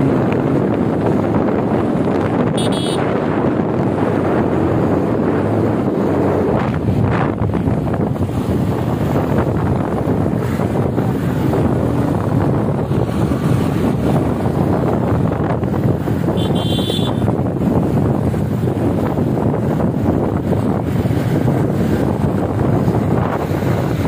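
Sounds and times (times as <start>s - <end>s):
motorcycle running: 0.0s - 24.0s
wind rushing over microphone: 0.0s - 24.0s.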